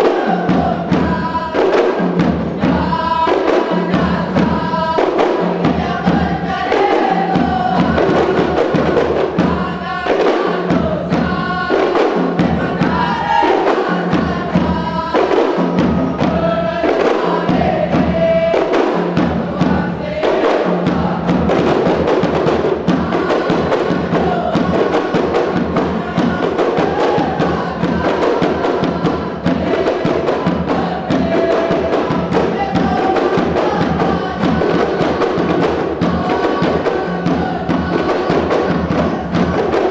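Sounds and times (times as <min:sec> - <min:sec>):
group of voices singing: 0:00.0 - 0:39.9
steady hand percussion: 0:00.0 - 0:39.9.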